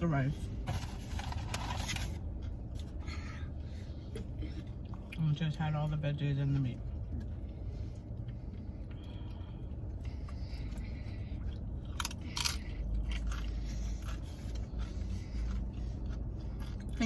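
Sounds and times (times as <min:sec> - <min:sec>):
low steady rumble: 0:00.0 - 0:17.0
chewing and crunching food: 0:00.8 - 0:17.0.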